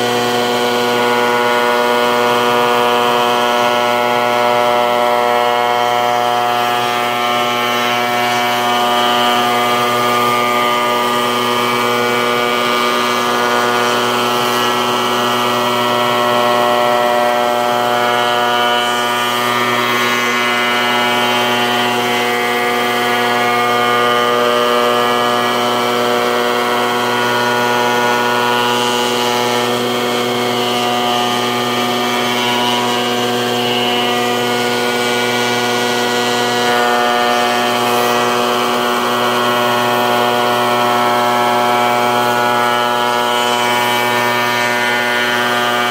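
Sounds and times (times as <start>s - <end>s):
molding machine whine: 0.0s - 45.9s.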